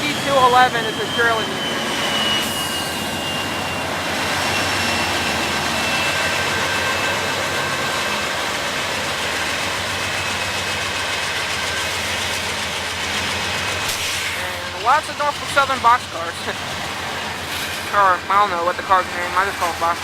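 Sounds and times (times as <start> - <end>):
freight train rolling on rails: 0.0 - 20.0.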